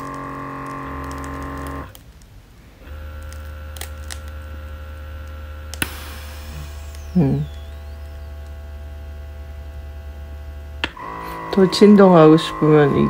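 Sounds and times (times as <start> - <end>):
massager motor humming: 0.0 - 13.0.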